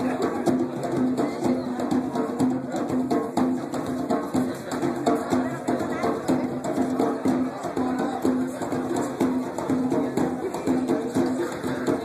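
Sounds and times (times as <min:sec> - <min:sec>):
percussion music: 0:00.0 - 0:12.0.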